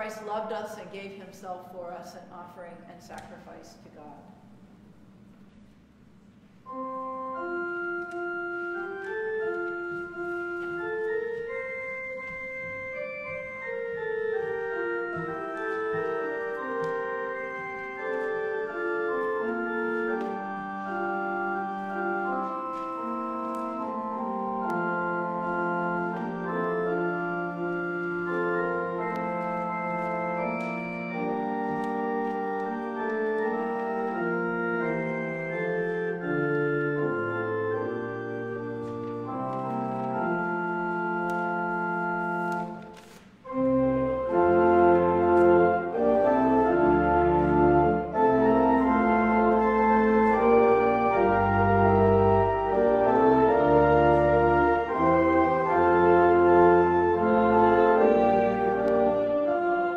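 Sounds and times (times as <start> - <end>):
church organ playing a hymn: 6.2 - 59.9.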